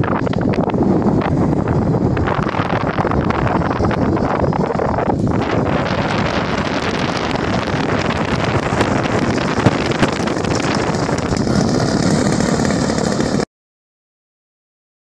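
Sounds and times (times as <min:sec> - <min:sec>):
wind buffeting microphone: 0:00.0 - 0:13.4
model aeroplane engine running: 0:00.0 - 0:13.5.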